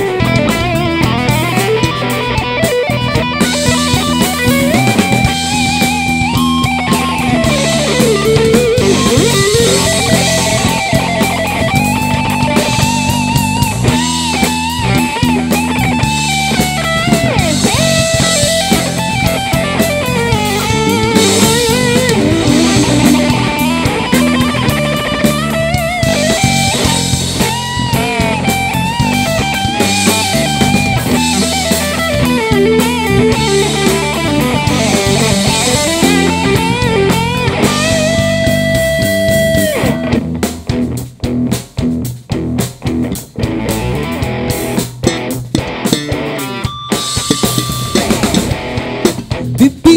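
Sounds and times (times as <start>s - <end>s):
lead electric guitar melody: 0.0s - 41.5s, 42.3s - 49.9s
drum kit: 0.0s - 49.9s
electric bass: 0.0s - 49.9s.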